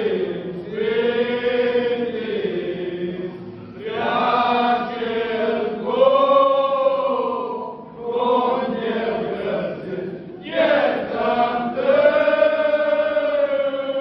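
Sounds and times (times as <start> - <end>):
men singing carol together: 0.0 - 14.0.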